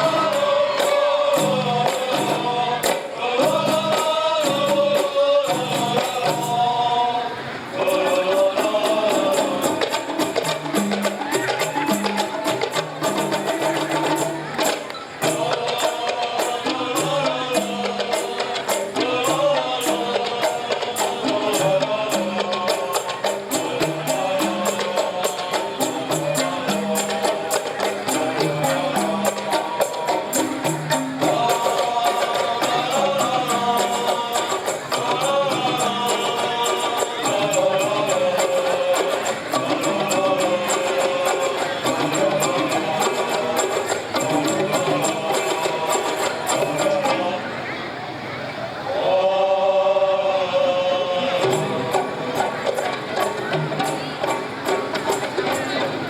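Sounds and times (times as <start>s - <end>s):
frame drums and tambourine rhythm: 0.0s - 7.0s, 7.8s - 47.5s, 51.3s - 56.0s.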